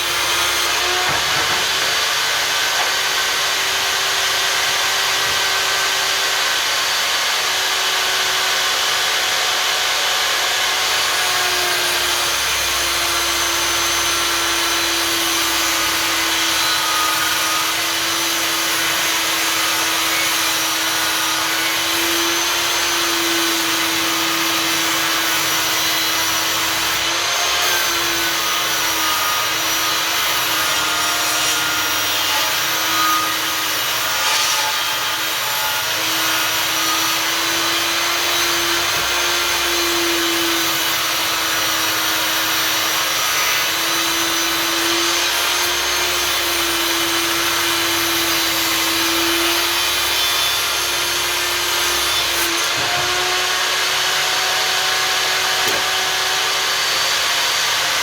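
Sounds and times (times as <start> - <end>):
table saw cutting wood: 0.0 - 58.0.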